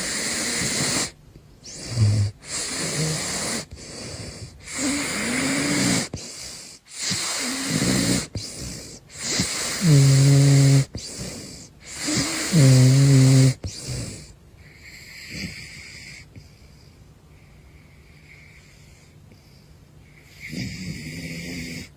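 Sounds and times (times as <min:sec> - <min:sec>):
animal snoring breaths: 0:00.0 - 0:21.9.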